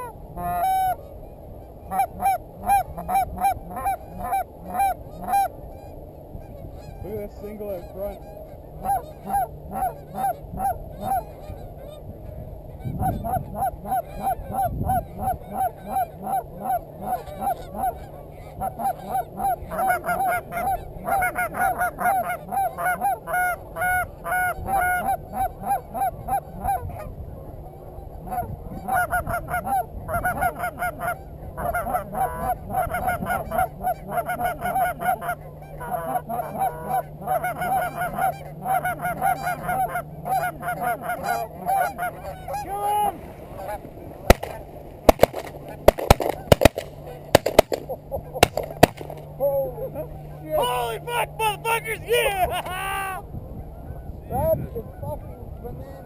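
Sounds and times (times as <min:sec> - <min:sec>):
geese honking and clucking: 0:00.0 - 0:53.2.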